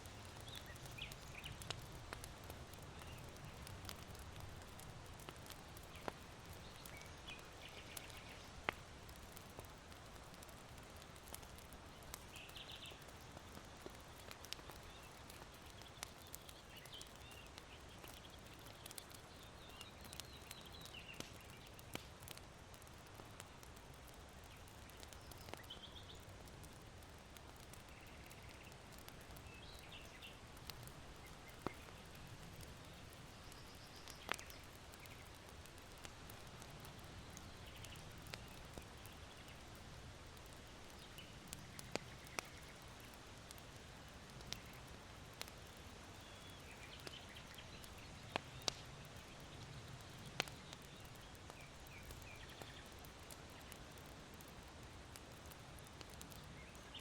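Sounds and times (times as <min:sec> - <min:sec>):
charcoal crackling and popping: 0:00.0 - 0:57.0
faint wind: 0:00.0 - 0:57.0.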